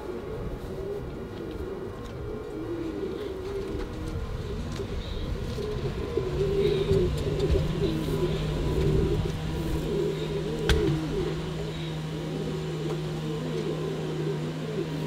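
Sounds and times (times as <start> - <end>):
pigeons cooing: 0.0 - 15.0
steady low hum: 0.0 - 15.0.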